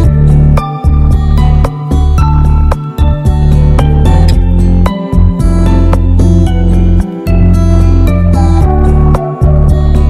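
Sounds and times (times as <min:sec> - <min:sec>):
instrumental music with heavy bass: 0:00.0 - 0:10.0.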